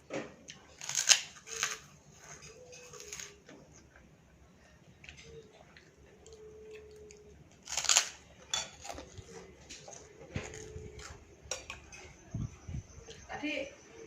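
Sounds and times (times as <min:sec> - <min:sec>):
chewing: 0:00.5 - 0:12.2.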